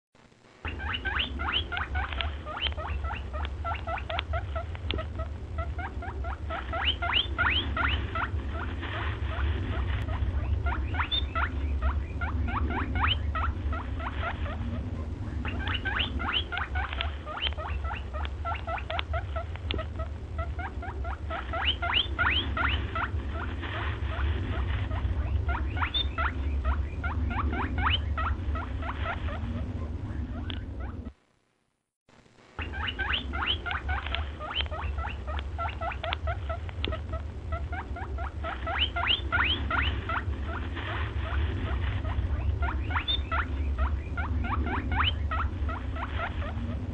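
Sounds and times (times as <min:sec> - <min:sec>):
low hum: 0:00.2 - 0:46.9
small animal squeaking: 0:00.6 - 0:31.2, 0:32.6 - 0:46.9.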